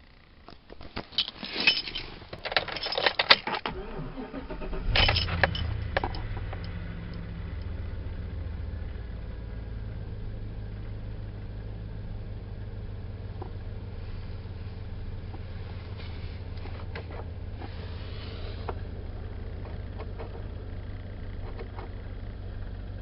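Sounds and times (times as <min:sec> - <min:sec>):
pickup engine idling: 0:03.7 - 0:23.0.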